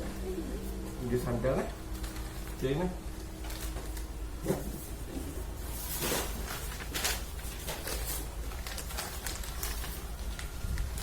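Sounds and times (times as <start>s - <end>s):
wrapping paper rustling and crinkling: 1.9s - 11.0s.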